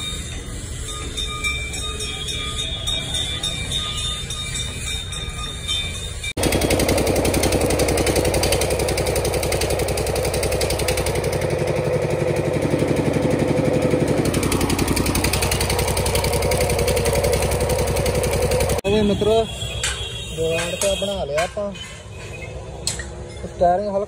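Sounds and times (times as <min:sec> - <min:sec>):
engine running: 0:00.0 - 0:19.3.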